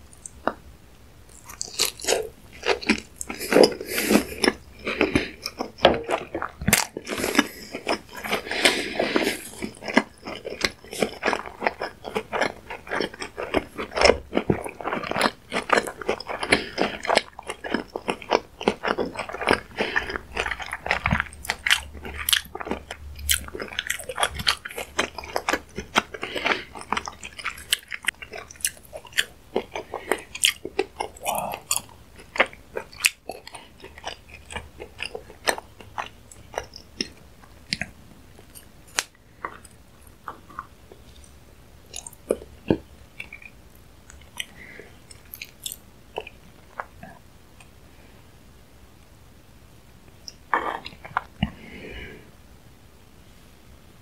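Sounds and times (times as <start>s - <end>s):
chewing fish roe: 1.3s - 47.8s, 50.1s - 52.1s.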